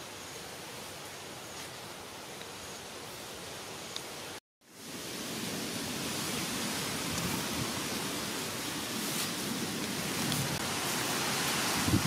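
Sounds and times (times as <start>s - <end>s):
outdoor hiss: 0.0s - 12.0s
rustling of grass and leaves: 0.0s - 12.0s.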